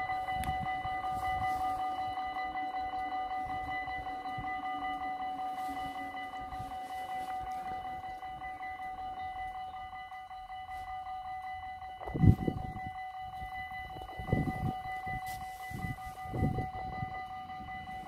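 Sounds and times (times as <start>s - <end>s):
level-crossing bells ringing: 0.0s - 18.0s.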